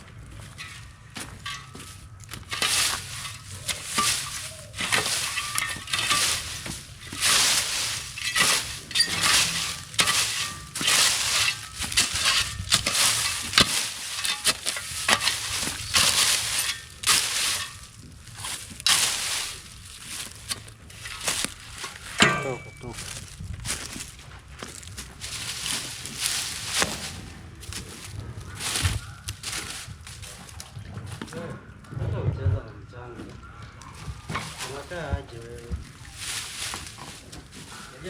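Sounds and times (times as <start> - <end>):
dry plants crunching: 0.0 - 31.8, 33.2 - 38.0.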